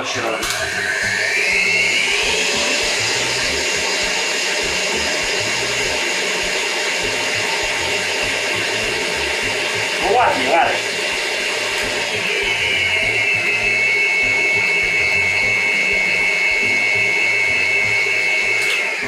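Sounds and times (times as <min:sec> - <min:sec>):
electric mixer running: 0:00.0 - 0:19.0.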